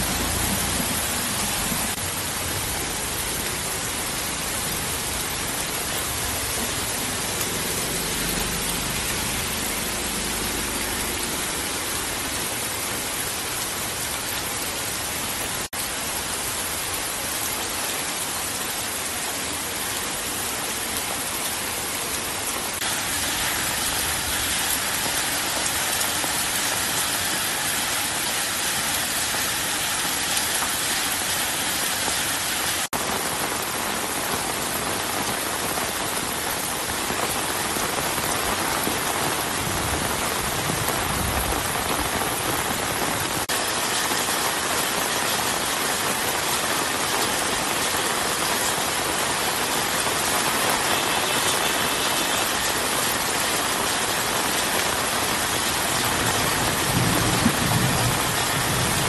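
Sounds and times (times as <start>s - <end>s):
heavy rain on road and roofs: 0.0s - 59.0s.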